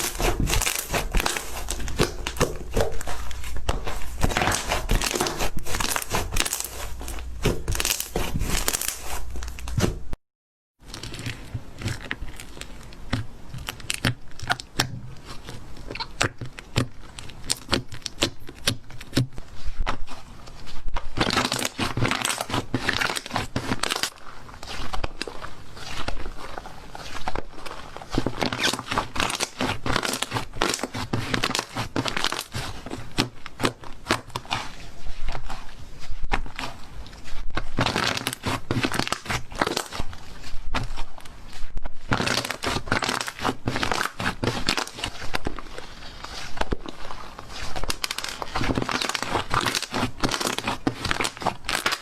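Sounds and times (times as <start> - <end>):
slime crackling and popping: 0.0 - 10.1, 10.9 - 19.3, 20.9 - 52.0
slime rustling: 0.0 - 10.2, 10.8 - 52.0.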